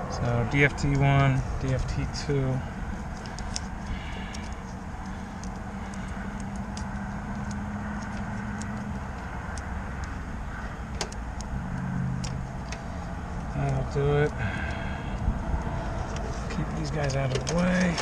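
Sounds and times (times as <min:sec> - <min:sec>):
low mechanical drone: 0:00.0 - 0:18.0
faint light clicks: 0:02.6 - 0:18.0.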